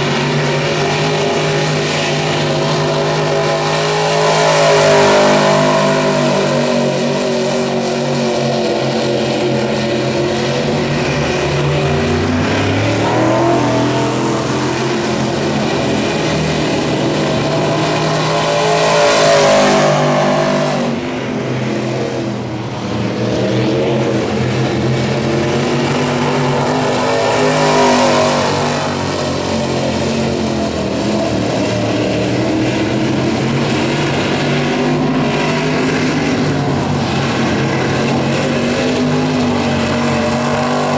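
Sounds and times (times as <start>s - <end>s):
race car engines: 0.0s - 40.9s.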